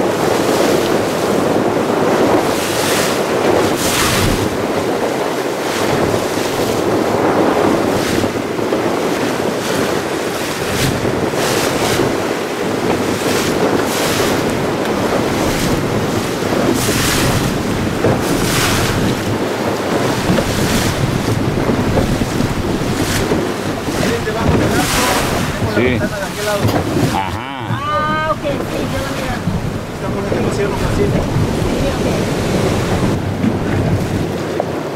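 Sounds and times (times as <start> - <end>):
seawater rushing and splashing: 0.0 - 34.9
wind buffeting microphone: 0.0 - 34.9
loud water splash: 2.0 - 8.5, 9.5 - 34.4.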